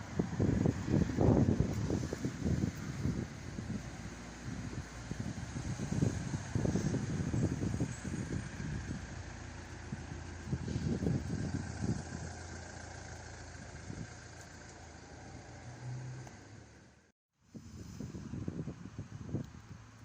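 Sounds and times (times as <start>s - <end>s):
wind gusting on microphone: 0.0s - 14.4s, 17.5s - 20.0s
vehicle engine running: 0.0s - 17.1s.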